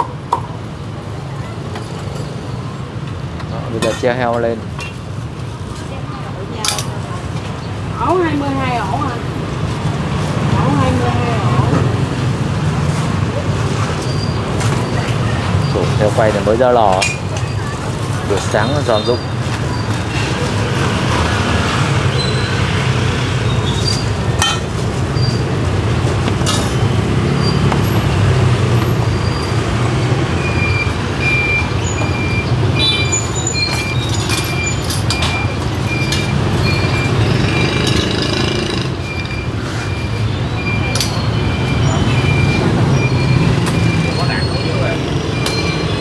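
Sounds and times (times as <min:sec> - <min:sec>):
motorbike traffic rumble: 0:00.0 - 0:46.0.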